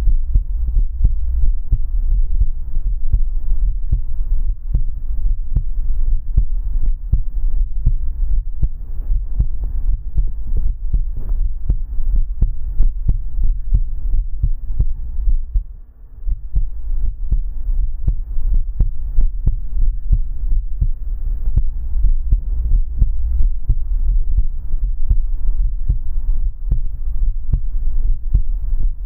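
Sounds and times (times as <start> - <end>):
muffled heartbeat thumping: 0.0 - 29.0.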